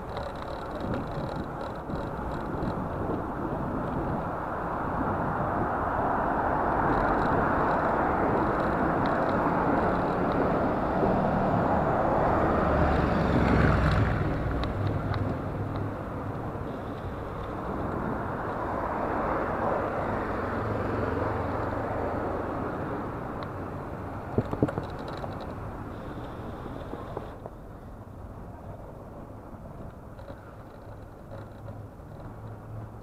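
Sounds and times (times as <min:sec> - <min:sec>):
motor traffic: 0:00.0 - 0:33.0
wind rushing over camera: 0:00.0 - 0:33.0.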